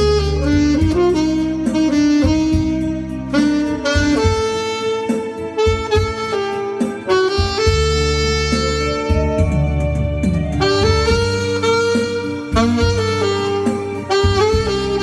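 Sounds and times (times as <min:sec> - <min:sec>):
low bass notes: 0:00.0 - 0:15.0
saxophone melody: 0:00.0 - 0:15.0.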